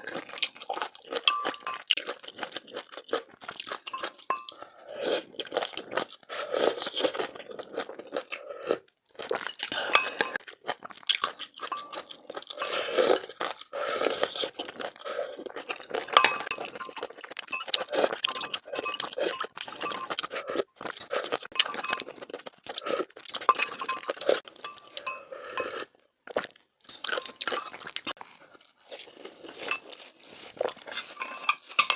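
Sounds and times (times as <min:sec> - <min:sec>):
crisp crunching and chewing: 0:00.0 - 0:31.9.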